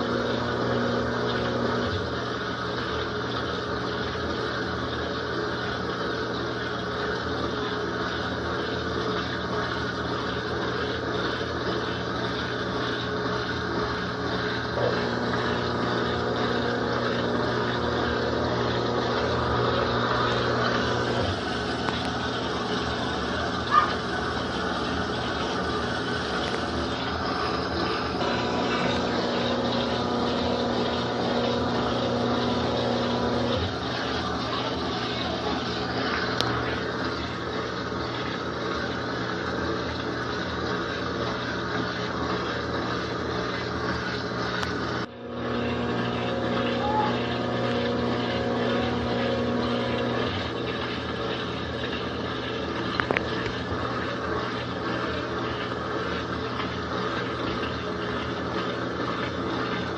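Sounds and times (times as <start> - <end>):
laundry machine motor humming: 0.0 - 59.9.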